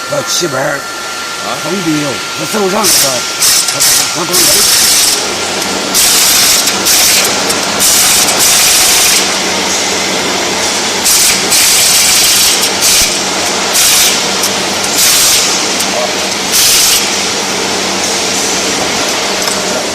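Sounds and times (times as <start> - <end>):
rebar cutting machine humming: 0.0 - 19.9.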